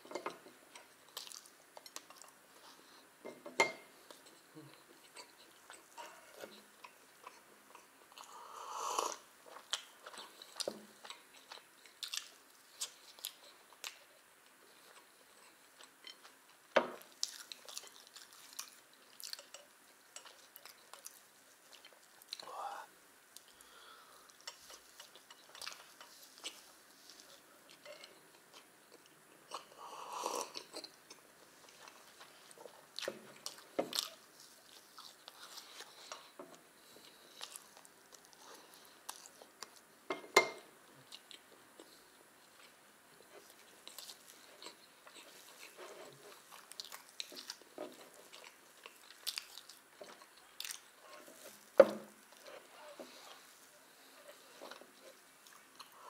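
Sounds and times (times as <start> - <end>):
chewing with wet mouth sounds: 0.3 - 3.0, 9.0 - 22.7, 23.4 - 29.8, 30.4 - 39.9, 40.9 - 56.0.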